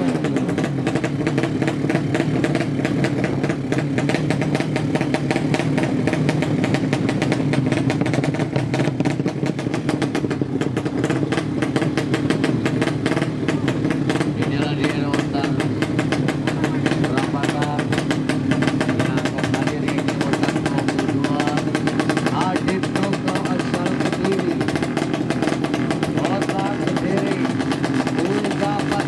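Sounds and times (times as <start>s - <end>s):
motorcycle engine fast idle: 0.0s - 29.0s.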